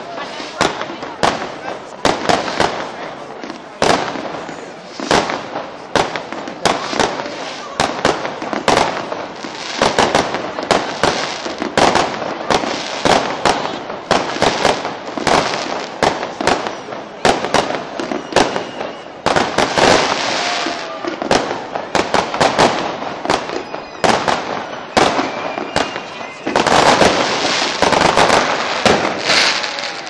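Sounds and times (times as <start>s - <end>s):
fireworks bursting: 0.0s - 30.0s
fireworks crackling and hiss: 0.0s - 30.0s.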